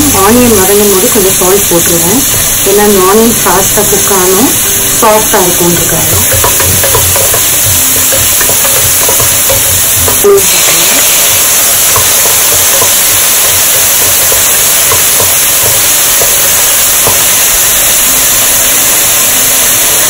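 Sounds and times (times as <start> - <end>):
onion frying in oil sizzling: 0.0 - 20.0.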